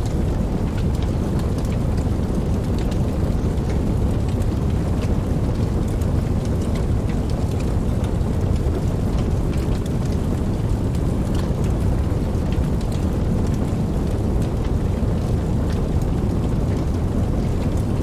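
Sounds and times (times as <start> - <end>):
steady rain with ticking drops: 0.0 - 18.0.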